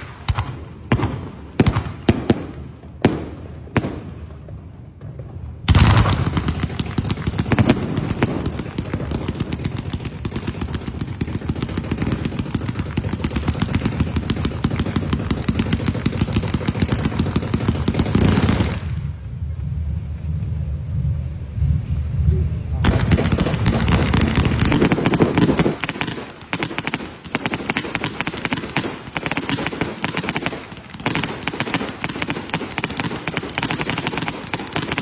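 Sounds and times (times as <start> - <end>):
firecrackers going off: 0.0 - 19.2, 22.8 - 35.0.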